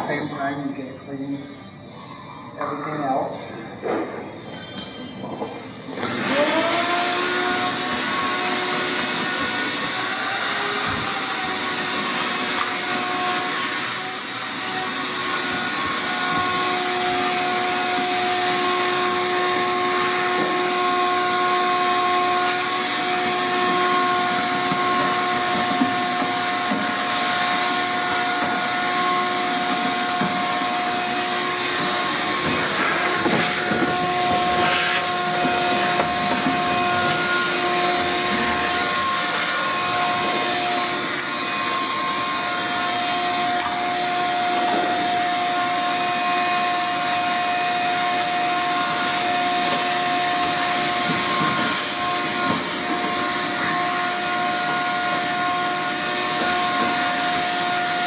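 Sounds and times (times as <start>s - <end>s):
shop vacuum motor whine: 4.8s - 58.0s.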